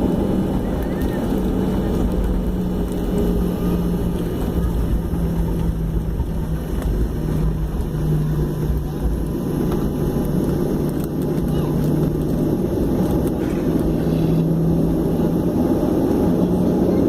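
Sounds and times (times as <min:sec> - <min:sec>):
airplane cabin low rumble: 0:00.0 - 0:17.0
engine hum: 0:00.0 - 0:17.0.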